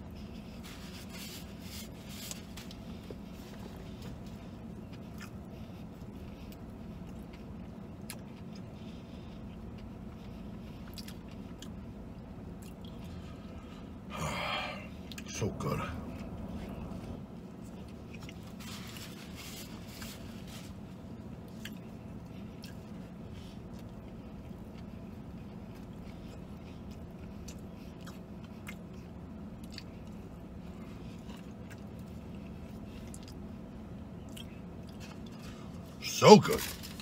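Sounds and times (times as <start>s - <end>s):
person chewing crunchy food: 0.0s - 13.8s, 16.1s - 37.0s
low steady hum: 0.0s - 37.0s.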